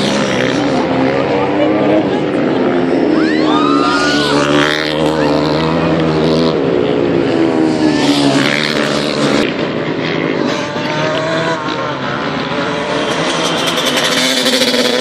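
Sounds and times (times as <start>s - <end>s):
racing motorcycles passing: 0.0s - 15.0s.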